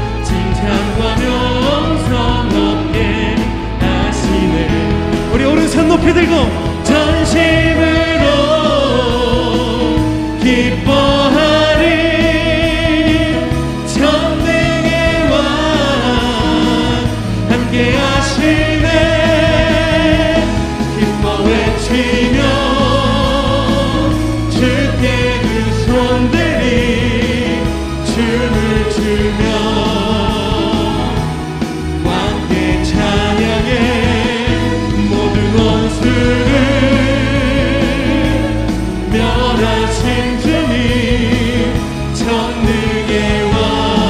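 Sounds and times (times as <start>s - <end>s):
congregation singing: 0.0s - 44.0s
keyboard accompaniment: 0.0s - 44.0s.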